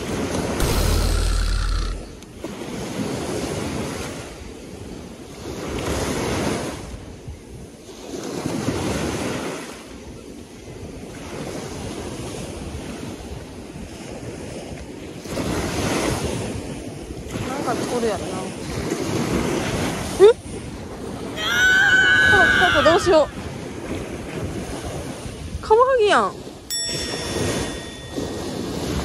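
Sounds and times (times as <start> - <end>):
waves washing against sea wall: 0.0 - 29.0
wind buffeting microphone: 0.0 - 29.0.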